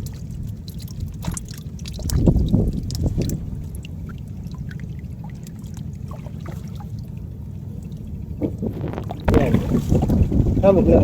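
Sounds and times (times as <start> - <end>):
water trickling and dripping: 0.0 - 10.8
low steady rumble: 0.0 - 11.0.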